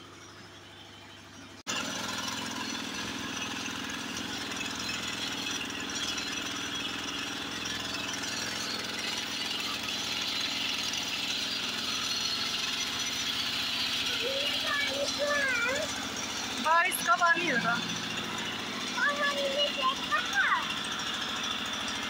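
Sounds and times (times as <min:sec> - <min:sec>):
water pump engine running: 0:00.0 - 0:22.0.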